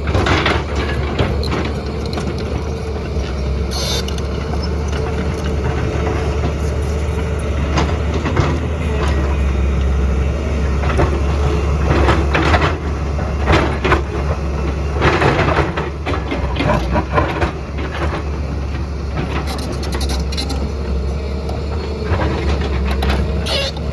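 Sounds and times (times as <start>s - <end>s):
excavator diesel engine running: 0.0s - 23.9s.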